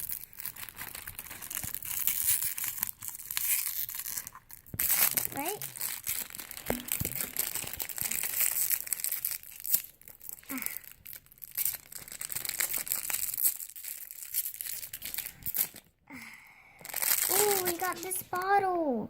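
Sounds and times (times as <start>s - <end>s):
plastic packaging crinkling and tearing: 0.0s - 15.9s, 16.8s - 18.7s.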